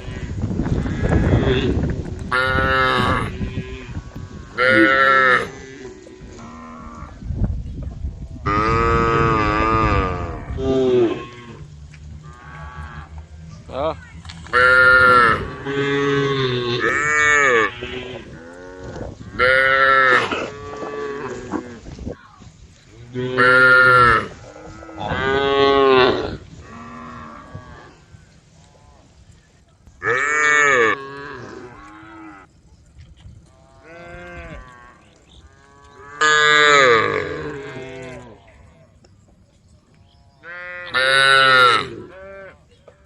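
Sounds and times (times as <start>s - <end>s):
cows mooing nearby: 0.0s - 7.2s, 8.4s - 13.8s, 14.5s - 21.9s, 23.0s - 29.1s, 30.0s - 32.5s, 33.4s - 38.8s, 40.2s - 42.7s
distant cows mooing: 0.0s - 7.2s, 8.4s - 21.9s, 23.0s - 29.1s, 30.0s - 32.5s, 33.5s - 38.8s, 40.2s - 42.6s.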